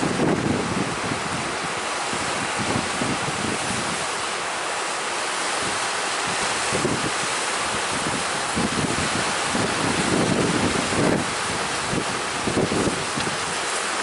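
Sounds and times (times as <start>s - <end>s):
wind buffeting microphone: 0.0s - 4.3s, 5.5s - 14.0s
sea surf rushing: 0.0s - 14.0s.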